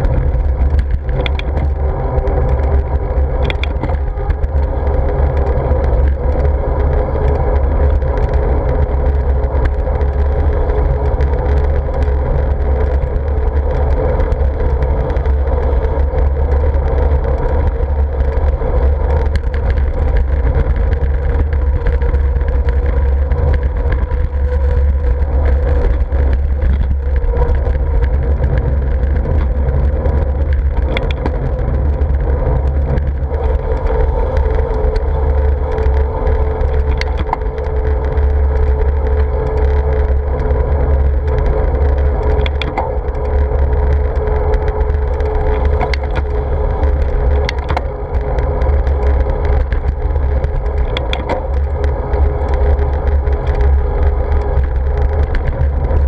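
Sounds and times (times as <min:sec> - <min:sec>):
road and traffic noise: 0:00.0 - 0:56.0
wind rumble on microphone: 0:00.0 - 0:56.0.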